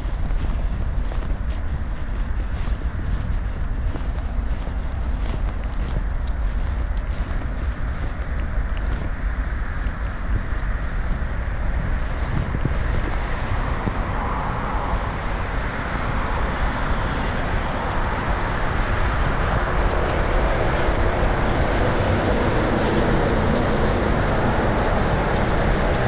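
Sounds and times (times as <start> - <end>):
passing road traffic: 4.5 - 26.0.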